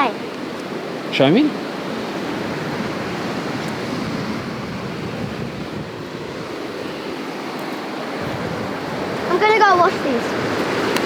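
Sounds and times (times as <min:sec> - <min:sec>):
ocean waves rushing: 0:00.0 - 0:11.0
wind on microphone: 0:01.6 - 0:11.0.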